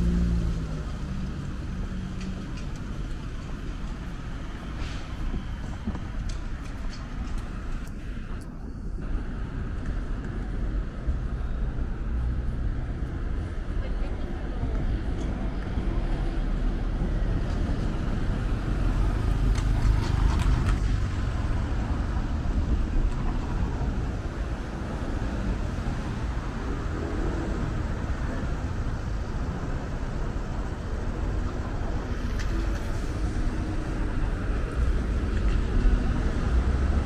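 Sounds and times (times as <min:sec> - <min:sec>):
car engines rumbling: 0:00.0 - 0:37.0.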